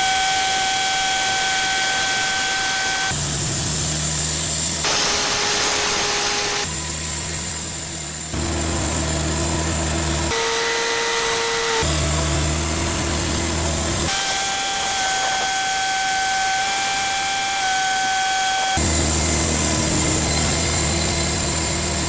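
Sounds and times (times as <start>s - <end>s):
band sawmill running: 0.0s - 22.0s.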